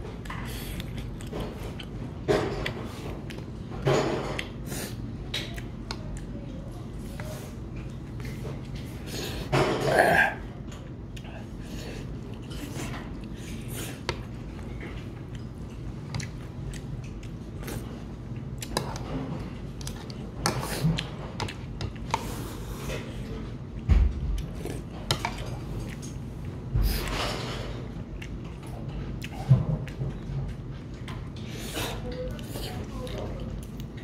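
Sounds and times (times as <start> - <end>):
chewing: 0.0 - 9.1, 10.6 - 23.8, 24.4 - 34.0.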